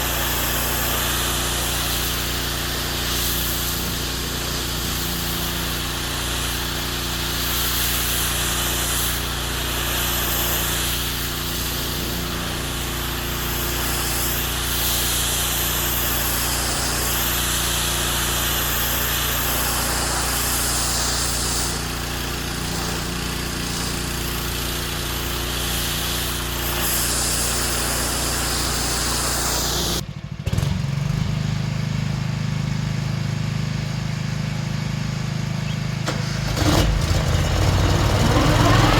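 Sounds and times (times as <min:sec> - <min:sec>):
loud hiss: 0:00.0 - 0:30.0, 0:35.6 - 0:38.9
small petrol engine running: 0:00.0 - 0:38.9.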